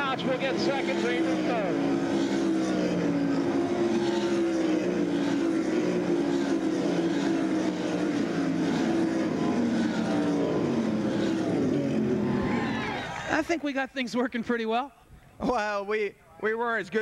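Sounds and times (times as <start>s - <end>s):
race car engines droning: 0.0s - 14.5s.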